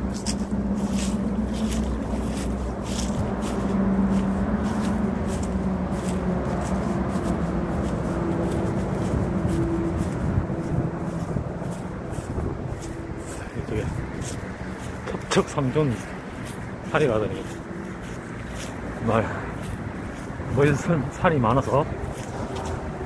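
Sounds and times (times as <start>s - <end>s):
expressway traffic rushing: 0.0s - 23.0s.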